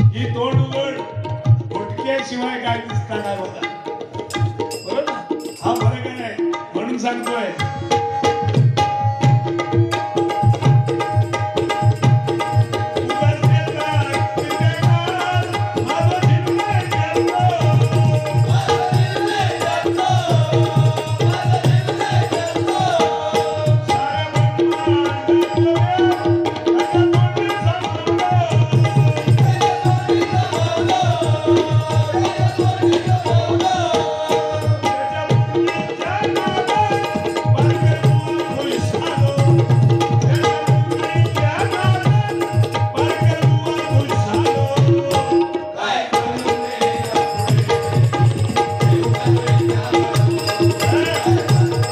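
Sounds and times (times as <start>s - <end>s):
harmonium melody: 0.0s - 51.9s.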